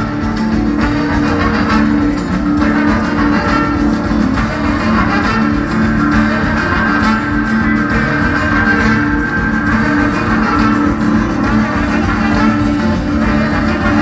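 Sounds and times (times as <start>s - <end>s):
electric guitar held notes: 0.0s - 14.0s
live band instrumental music: 0.0s - 14.0s
low bass: 0.0s - 14.0s.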